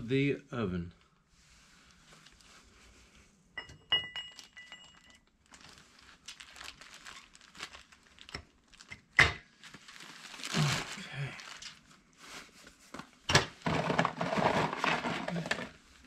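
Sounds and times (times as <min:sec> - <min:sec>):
crinkling handling noise: 0:01.0 - 0:03.2, 0:04.3 - 0:16.0.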